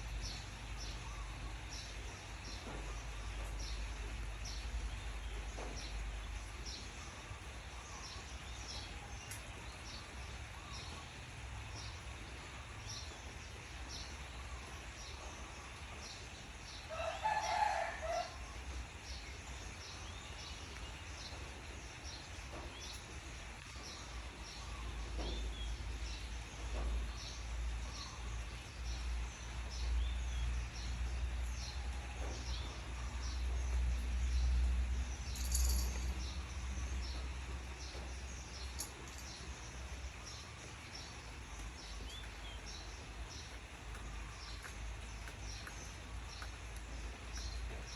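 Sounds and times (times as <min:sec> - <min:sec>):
small birds chirping: 0:00.0 - 0:16.9, 0:18.2 - 0:47.9.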